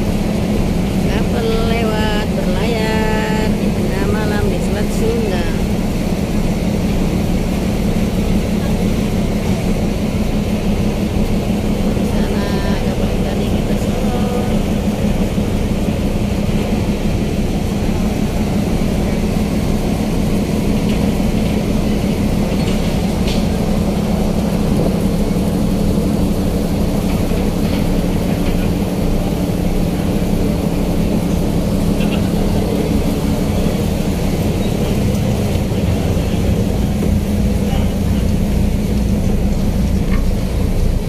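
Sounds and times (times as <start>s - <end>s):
ferry engines droning: 0.0s - 41.0s.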